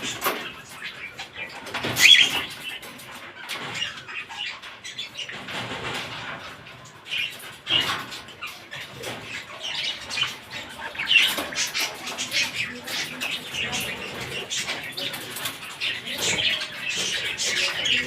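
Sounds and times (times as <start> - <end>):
cockatiels chirping and calling: 0.0 - 18.0.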